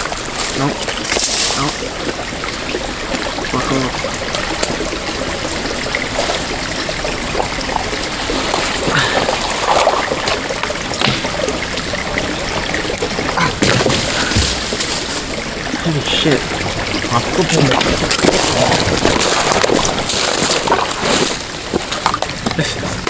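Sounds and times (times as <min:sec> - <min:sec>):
creek water running: 0:00.0 - 0:23.0
water splashes and knocks: 0:00.0 - 0:23.0.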